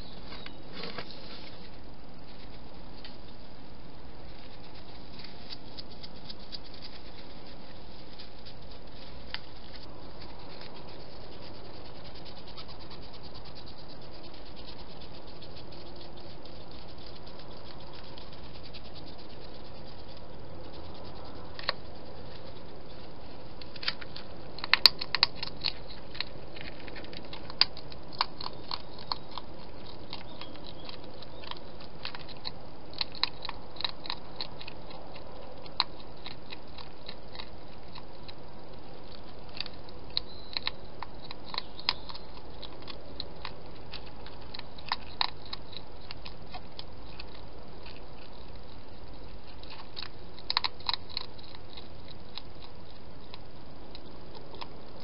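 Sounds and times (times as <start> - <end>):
hedgehog crunching food: 0.0 - 55.0.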